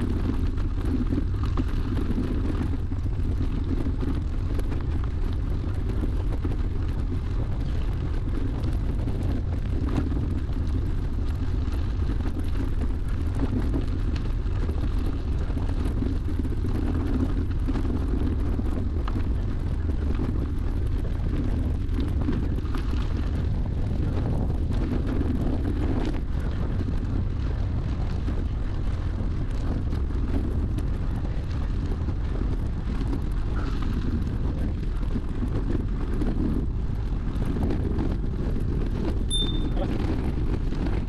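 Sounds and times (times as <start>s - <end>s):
tyres rolling on gravel: 0.0s - 41.0s
wind on microphone: 0.0s - 41.0s.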